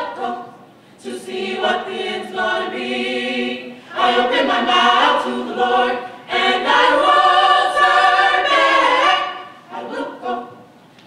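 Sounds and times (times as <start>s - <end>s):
gospel choir singing: 0.0s - 10.8s.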